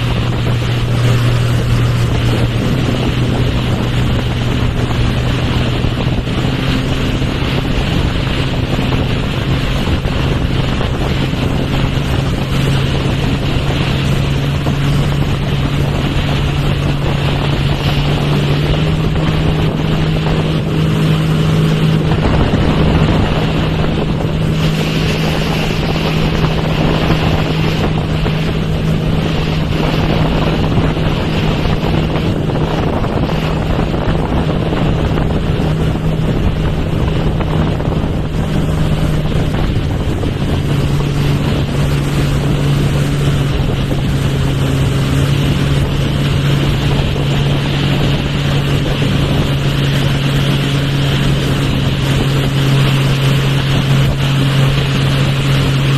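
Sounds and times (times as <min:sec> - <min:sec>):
speedboat engine: 0:00.0 - 0:55.9
water rushing: 0:00.0 - 0:55.9
wind buffeting microphone: 0:00.0 - 0:55.9.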